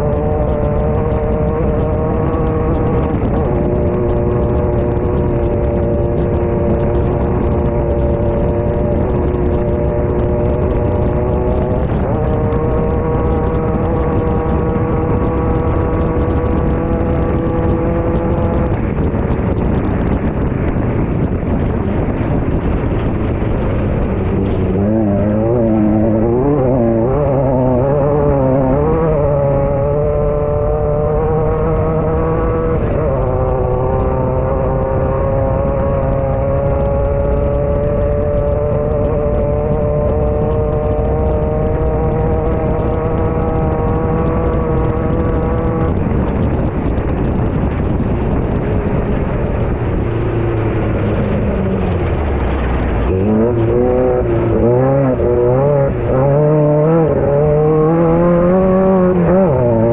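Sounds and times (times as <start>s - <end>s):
constant rushing noise: 0.0s - 59.9s
race car engine running hard: 0.0s - 59.9s.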